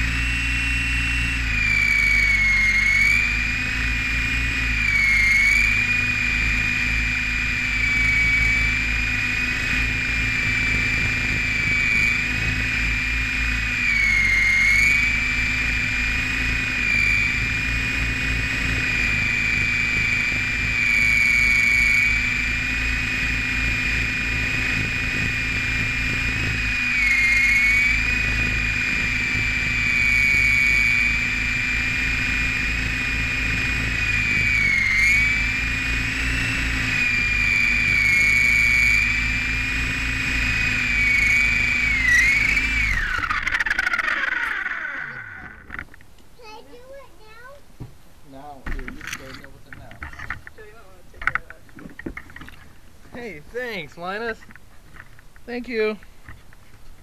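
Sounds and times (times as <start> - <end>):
helicopter rotor whine: 0.0 - 57.0.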